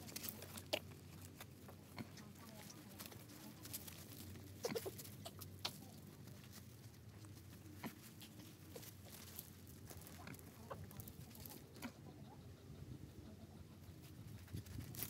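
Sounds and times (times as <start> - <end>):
small paws pattering on gravel: 0.0 - 11.9, 14.0 - 15.0.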